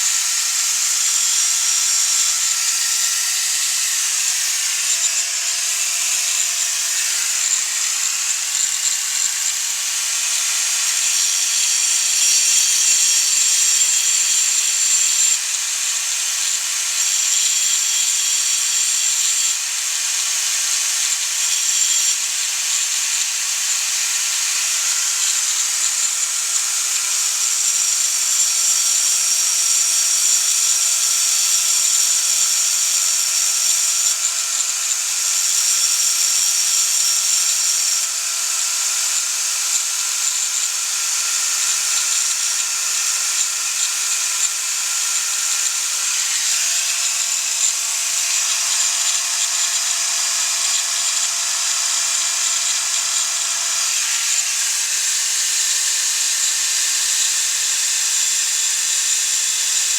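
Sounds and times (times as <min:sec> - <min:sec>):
power tool whirring: 0:00.0 - 0:59.9.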